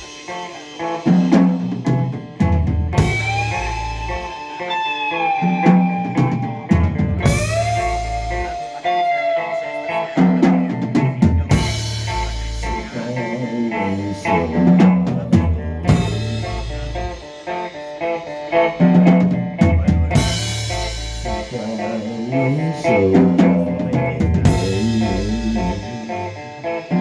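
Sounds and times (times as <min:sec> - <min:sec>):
drum kit: 0:00.0 - 0:27.0
electric guitar: 0:00.0 - 0:27.0.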